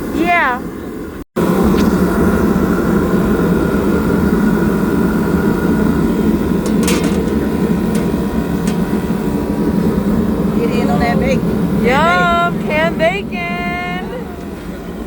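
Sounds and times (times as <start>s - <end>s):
kitchen equipment running roar: 1.4s - 15.0s.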